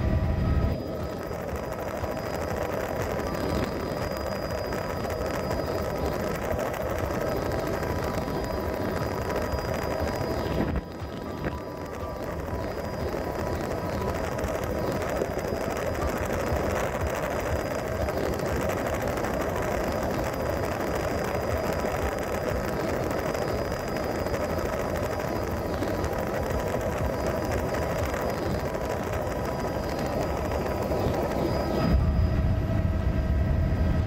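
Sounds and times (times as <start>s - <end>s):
faint high whine: 0.0s - 34.0s
helicopter engine and rotor drone: 0.0s - 34.0s.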